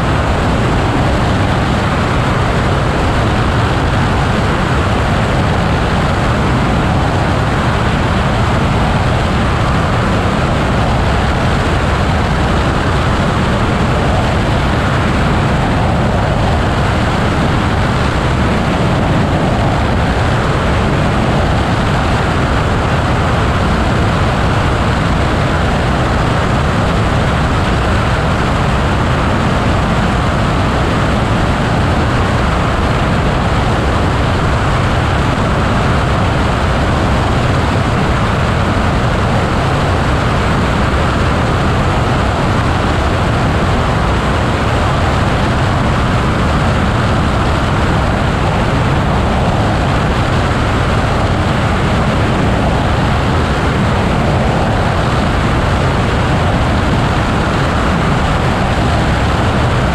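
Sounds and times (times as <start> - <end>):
glider flight noise: 0.0 - 59.9.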